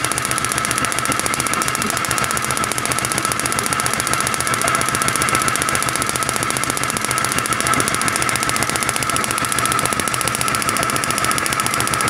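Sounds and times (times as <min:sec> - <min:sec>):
motorcycle engine cranking: 0:00.0 - 0:12.0
spark plug ticking: 0:00.0 - 0:12.0.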